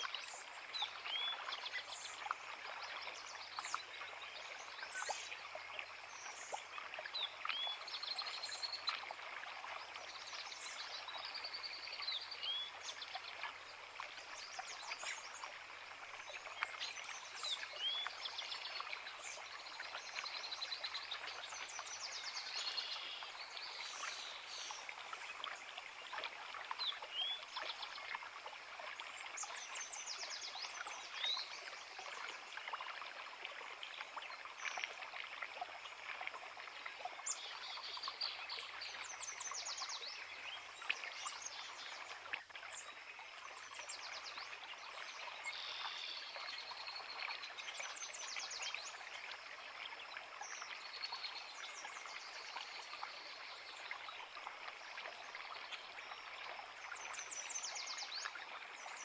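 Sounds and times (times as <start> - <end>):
creek water running: 0.0 - 59.0
songbirds chirping: 0.0 - 59.0.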